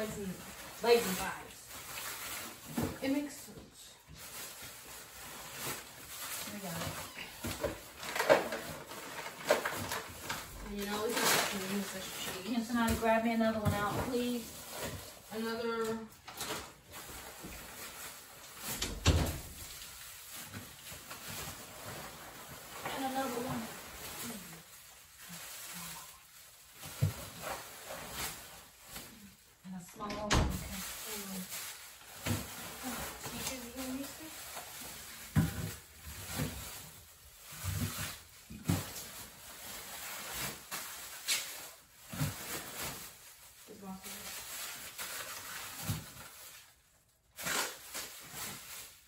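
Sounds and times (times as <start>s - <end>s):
plastic bags of frozen food rustling: 0.0s - 29.8s, 30.5s - 49.0s.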